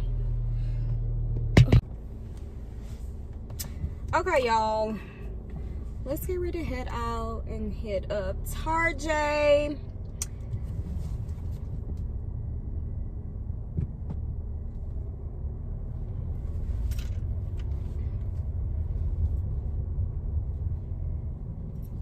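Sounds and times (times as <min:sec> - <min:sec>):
car engine rumble from inside: 0:00.0 - 0:22.0.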